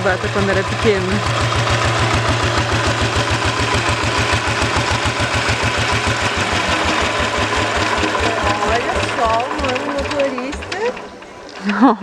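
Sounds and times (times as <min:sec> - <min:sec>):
diesel engine chugging: 0:00.0 - 0:11.8.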